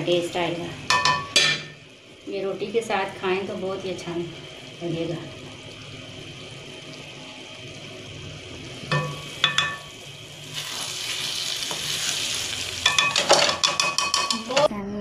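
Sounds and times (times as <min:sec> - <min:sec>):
food sizzling in oil: 0:00.0 - 0:14.7.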